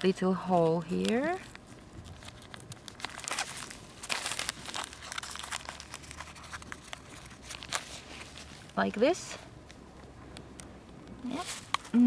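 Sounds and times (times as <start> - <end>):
fabric rustling and crinkling: 0.0 - 10.2, 11.1 - 12.0.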